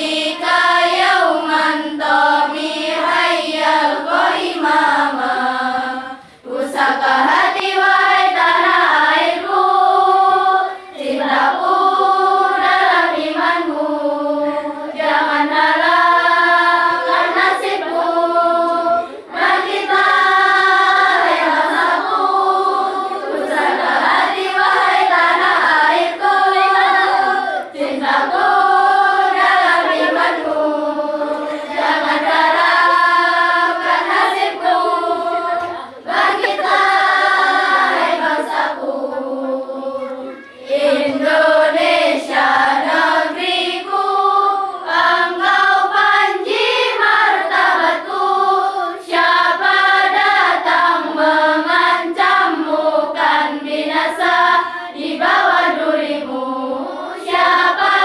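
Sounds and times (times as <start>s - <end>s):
girls choir singing: 0.0s - 58.0s.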